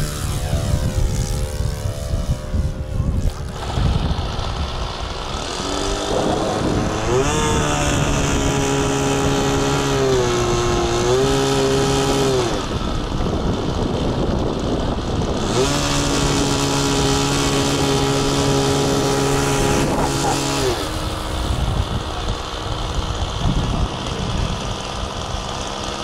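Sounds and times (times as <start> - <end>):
low rumbling noise: 0.0 - 26.0
model plane engine: 0.0 - 26.0.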